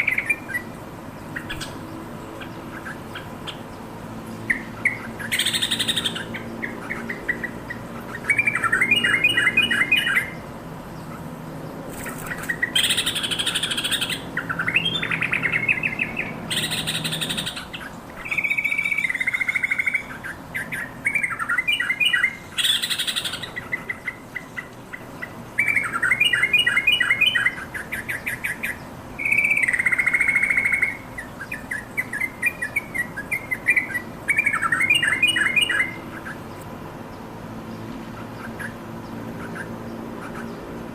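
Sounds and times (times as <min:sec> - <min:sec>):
bird bubbling song: 0:00.0 - 0:36.7
harsh scratchy bird calls: 0:00.0 - 0:36.7, 0:37.8 - 0:40.9.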